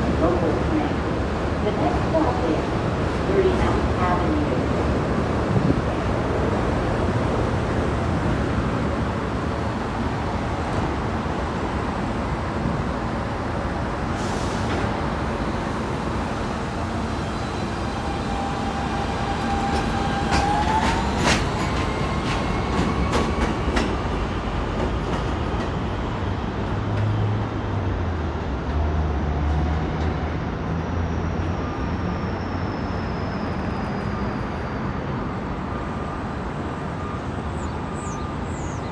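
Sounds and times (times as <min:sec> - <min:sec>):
train wheels rumbling on track: 0:00.0 - 0:38.8.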